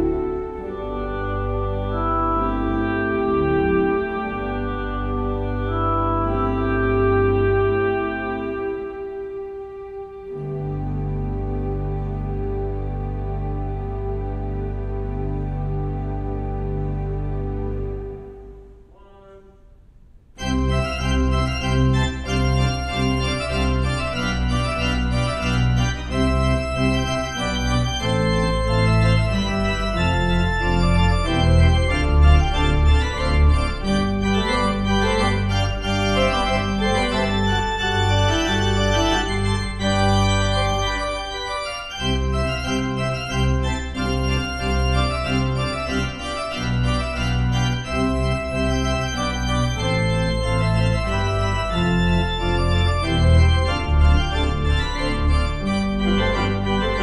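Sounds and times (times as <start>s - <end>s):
pipe organ chords: 0.0s - 19.6s, 20.4s - 57.0s.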